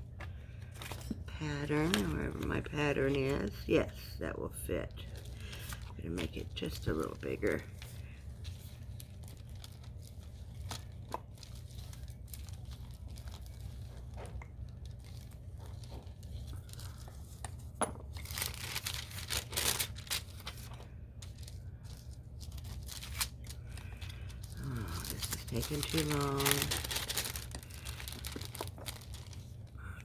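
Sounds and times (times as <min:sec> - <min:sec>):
steady low hum: 0:00.0 - 0:30.0
wax paper crinkling: 0:00.3 - 0:30.0.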